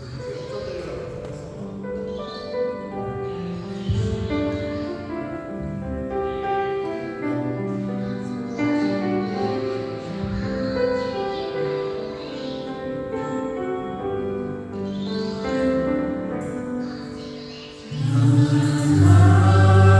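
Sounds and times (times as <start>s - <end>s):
keyboard and piano chords: 0.0s - 19.9s.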